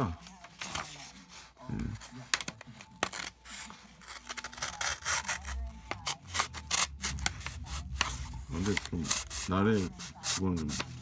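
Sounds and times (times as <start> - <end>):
paper rustling: 0.0 - 11.0
knife cutting paper: 0.6 - 11.0.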